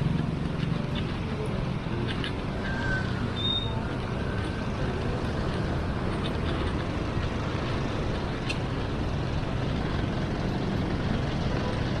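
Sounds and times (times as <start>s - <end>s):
road traffic drone: 0.0s - 12.0s.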